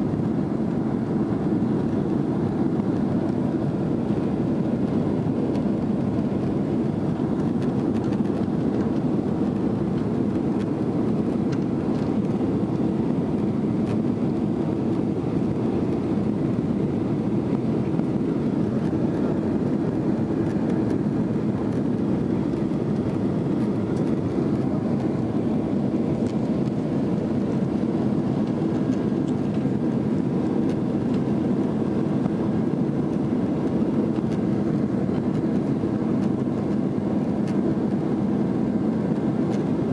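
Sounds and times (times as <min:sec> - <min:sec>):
jet engine cabin rush: 0:00.0 - 0:39.9.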